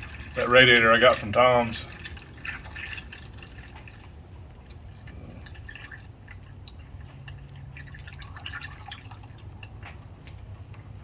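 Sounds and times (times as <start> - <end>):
liquid pouring and gurgling: 0.0 - 10.6
drips and splashes: 0.0 - 11.0.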